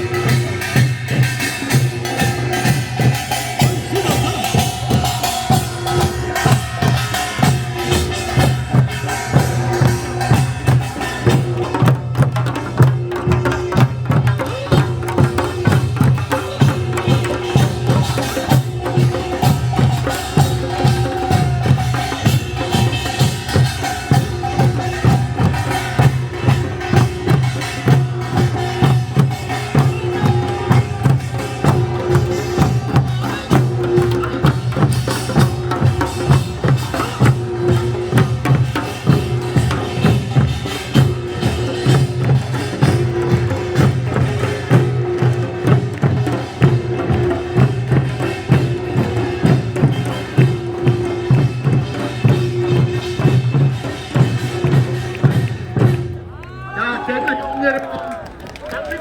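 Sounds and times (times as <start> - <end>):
fast clacking percussion beat: 0.0 - 59.0.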